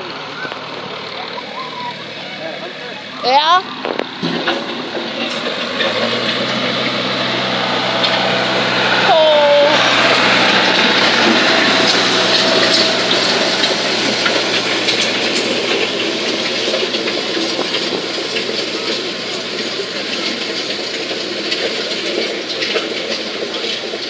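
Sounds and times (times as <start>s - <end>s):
tractor engine running hard: 0.0s - 24.0s.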